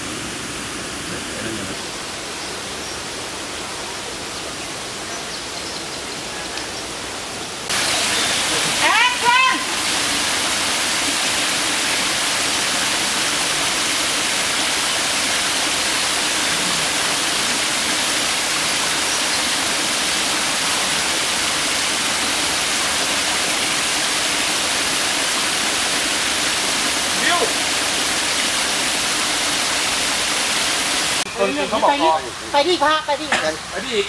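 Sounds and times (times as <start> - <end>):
stream rushing over rocks: 0.0 - 5.1, 7.6 - 34.0.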